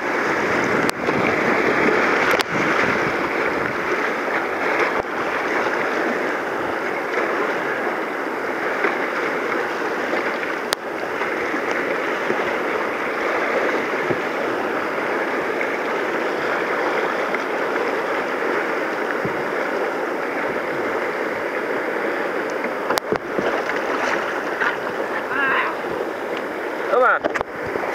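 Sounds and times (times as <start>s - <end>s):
whitewater rushing: 0.0s - 27.9s.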